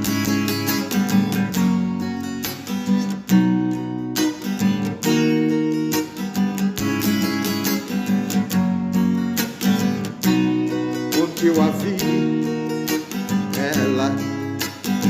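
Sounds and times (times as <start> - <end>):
acoustic guitar strummed chords: 0.0 - 15.0.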